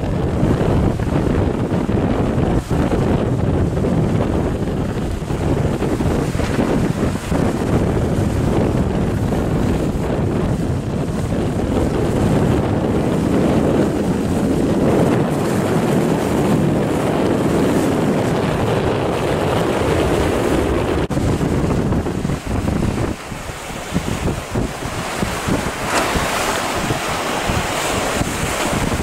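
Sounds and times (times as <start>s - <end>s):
choppy water: 0.0s - 29.0s
motorboats running: 0.0s - 29.0s
wind buffeting microphone: 0.0s - 29.0s.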